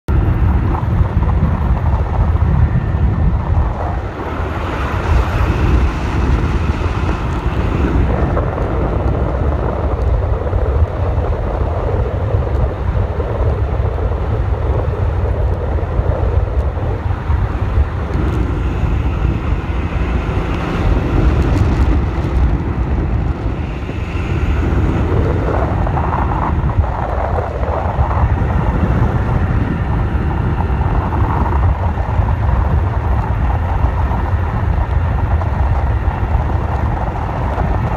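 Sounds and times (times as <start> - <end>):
boat engine roar: 0.0 - 37.9
wind buffeting microphone: 0.0 - 37.9.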